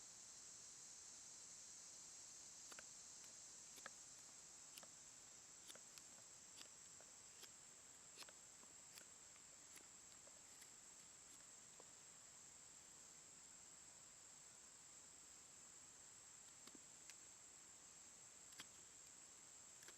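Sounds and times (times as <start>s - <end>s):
faint high hiss: 0.0s - 19.9s.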